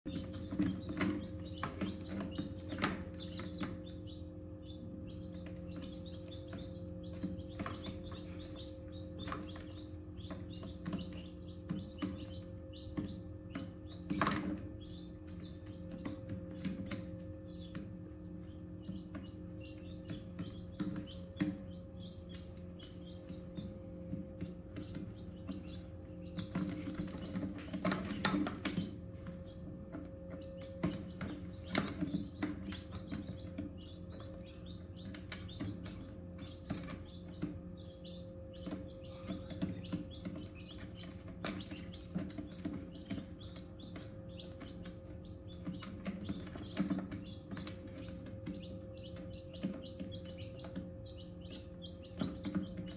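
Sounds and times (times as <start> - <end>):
chicks peeping: 0.0 - 52.9
incubator hum: 0.0 - 52.9.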